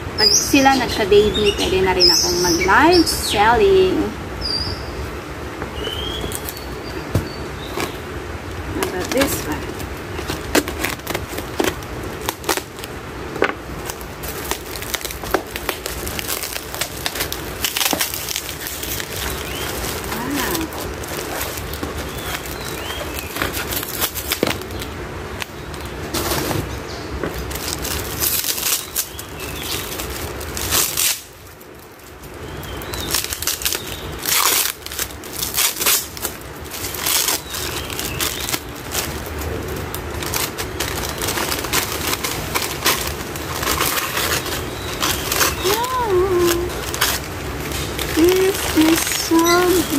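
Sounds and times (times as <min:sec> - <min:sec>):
paper wrapping crinkling: 0:05.6 - 0:49.9.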